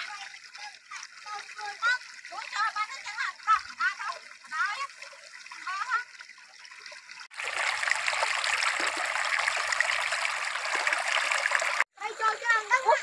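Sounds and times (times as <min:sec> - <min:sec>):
stream water running over rocks: 0:00.0 - 0:12.8.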